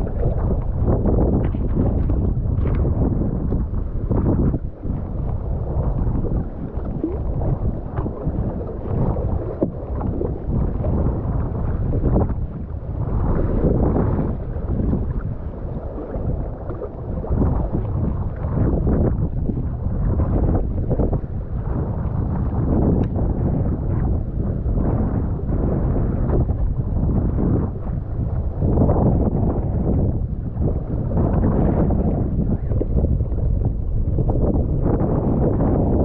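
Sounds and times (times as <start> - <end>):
water sloshing around kayak: 0.0 - 34.6
wind buffeting microphone: 0.0 - 36.0.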